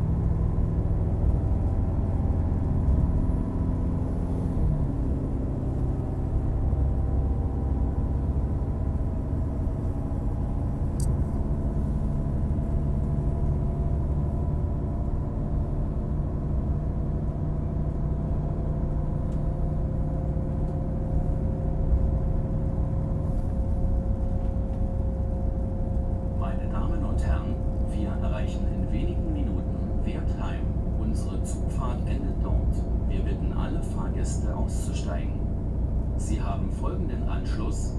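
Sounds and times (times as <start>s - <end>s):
train engine rumble: 0.0s - 37.9s.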